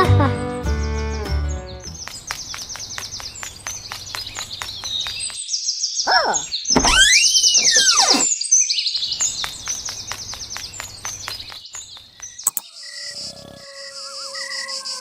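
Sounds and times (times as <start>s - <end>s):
birds chirping: 0.4s - 15.0s
sweeping whistled bird calls: 2.0s - 15.0s.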